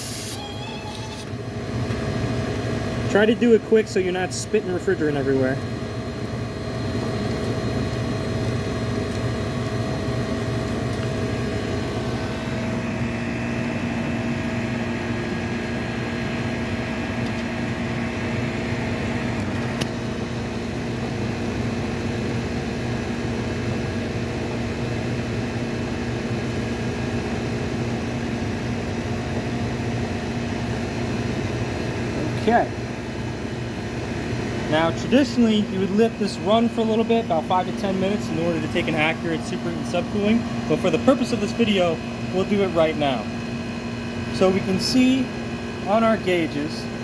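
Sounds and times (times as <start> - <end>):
air conditioning unit humming: 0.0 - 47.0.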